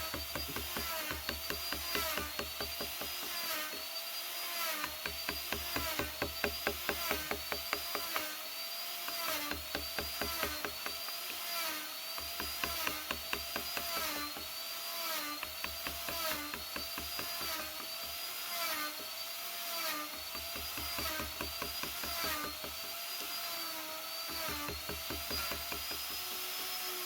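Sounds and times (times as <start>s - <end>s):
power tool whine: 0.0s - 27.0s.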